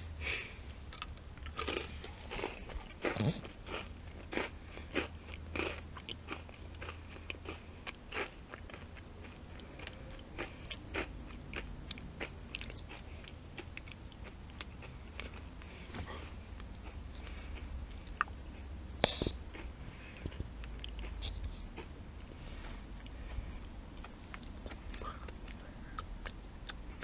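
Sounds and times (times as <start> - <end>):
low steady hum: 0.0 - 27.0
person chewing crunchy biscuit: 0.1 - 27.0.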